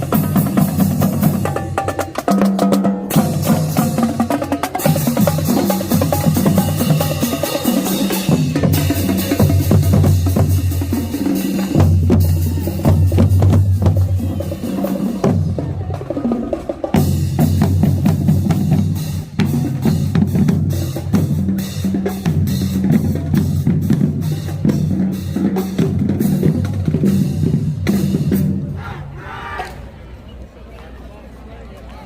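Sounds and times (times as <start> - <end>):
snare and bass drums: 0.0 - 28.7.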